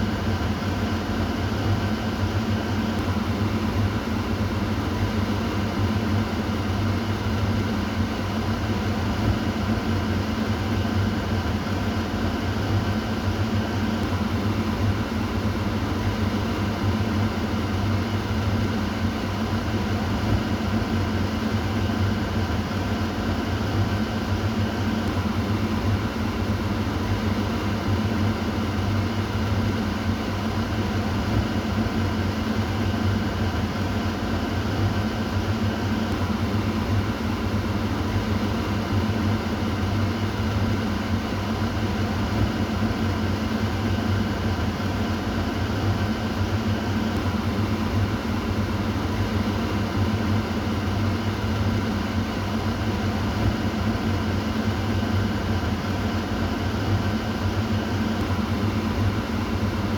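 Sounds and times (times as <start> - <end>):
exhaust fan humming: 0.0 - 59.9.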